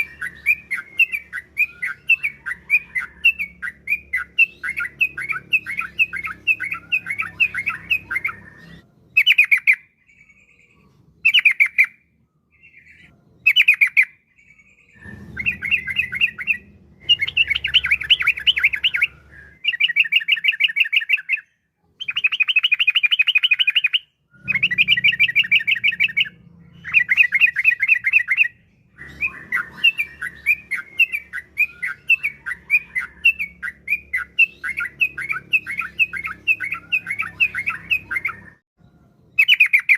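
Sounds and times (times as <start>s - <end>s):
bird singing chattering phrases: 0.0s - 38.6s, 39.3s - 39.9s.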